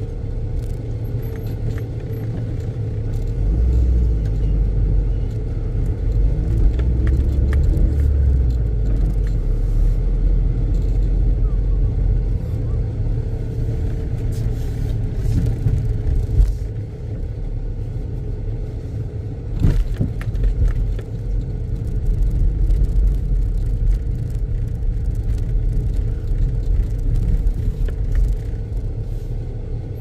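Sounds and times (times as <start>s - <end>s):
engine and tyre rumble: 0.0s - 30.0s.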